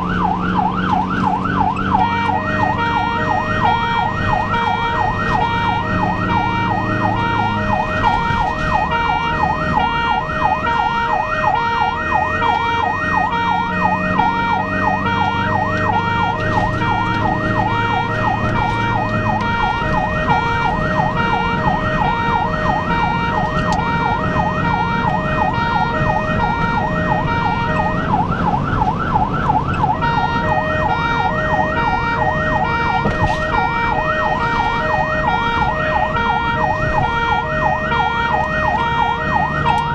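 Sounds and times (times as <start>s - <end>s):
ambulance siren yelping: 0.0s - 39.9s
engine and road noise: 0.0s - 39.9s.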